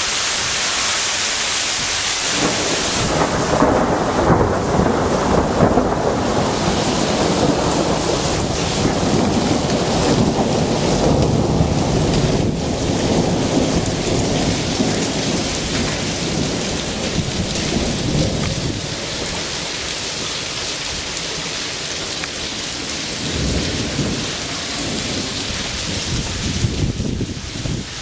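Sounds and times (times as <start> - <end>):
hail and rain pelting down: 0.0 - 28.0
thunder rumbling: 2.2 - 28.0.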